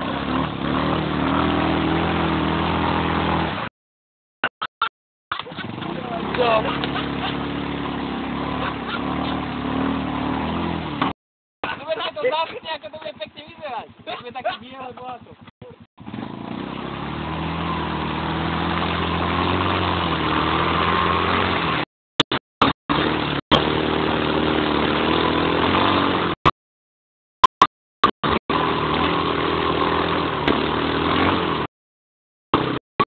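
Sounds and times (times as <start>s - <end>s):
quad engine running under load: 0.0s - 3.7s, 5.3s - 26.5s, 27.5s - 31.7s, 32.5s - 32.8s
wheels splashing in mud: 0.0s - 3.7s, 5.3s - 26.4s, 28.2s - 31.7s.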